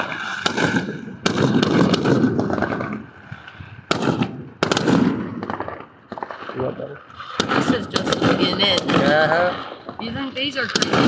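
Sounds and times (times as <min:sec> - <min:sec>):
fireworks bangs: 0:00.0 - 0:11.0
fireworks crackling: 0:00.0 - 0:11.0
rolling rumble: 0:00.0 - 0:11.0.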